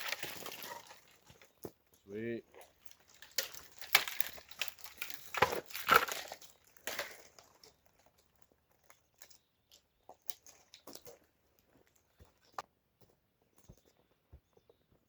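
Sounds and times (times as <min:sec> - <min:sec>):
dry branches crackling and snapping: 0:00.0 - 0:12.6.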